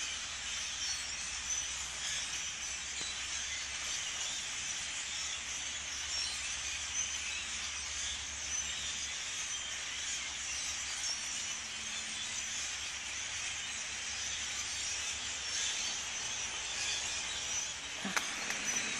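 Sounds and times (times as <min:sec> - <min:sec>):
flock of starlings chattering: 0:00.0 - 0:18.9.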